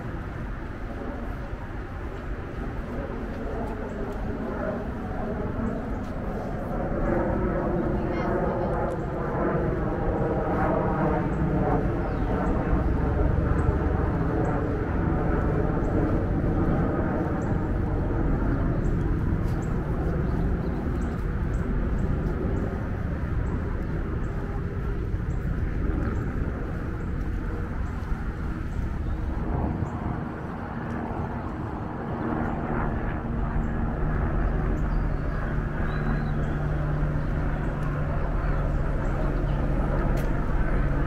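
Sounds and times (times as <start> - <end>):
distant traffic rumble: 0.0 - 41.0.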